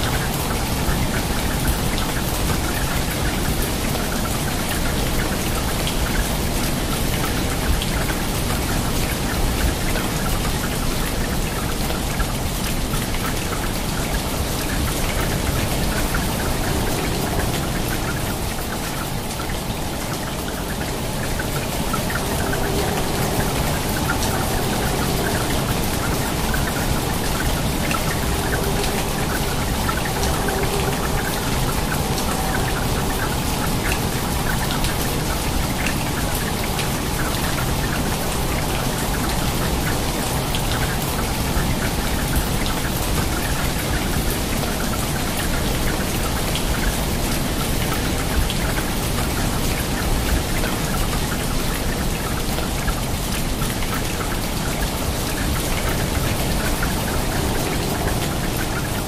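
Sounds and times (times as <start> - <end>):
rain falling onto water: 0.0 - 59.0.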